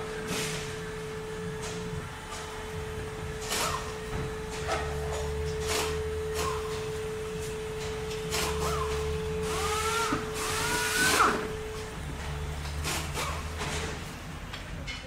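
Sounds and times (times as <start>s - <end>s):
steady hum and tone: 0.0s - 15.0s
power tool whirring: 0.4s - 13.8s.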